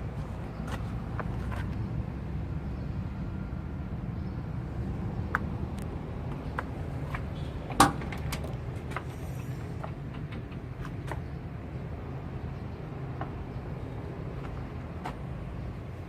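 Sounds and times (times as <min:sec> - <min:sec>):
road roller diesel engine rumbling: 0:00.0 - 0:16.0.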